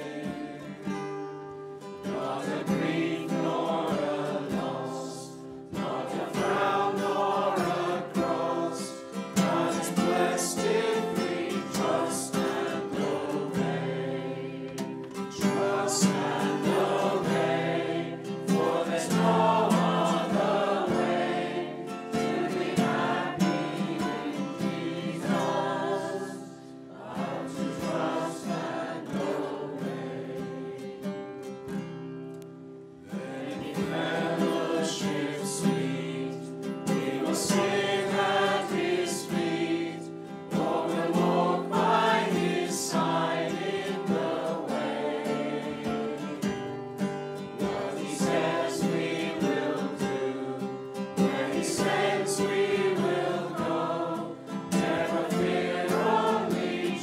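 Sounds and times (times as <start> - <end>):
congregation singing a hymn: 0.0 - 31.8, 33.0 - 57.0.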